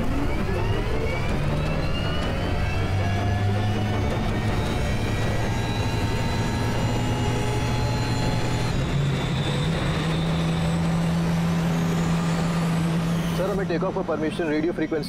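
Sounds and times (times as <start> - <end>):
propeller plane engine revving: 0.0 - 14.1.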